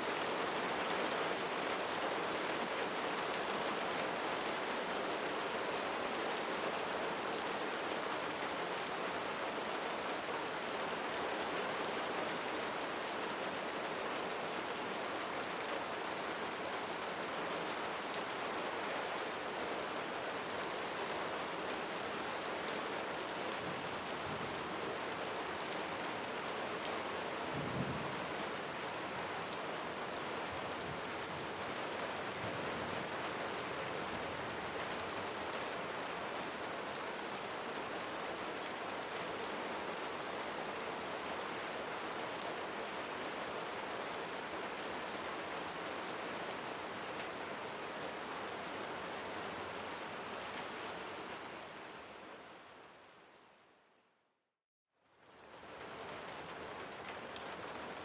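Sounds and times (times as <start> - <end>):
rain falling on leaves: 0.0 - 53.6, 55.0 - 58.0.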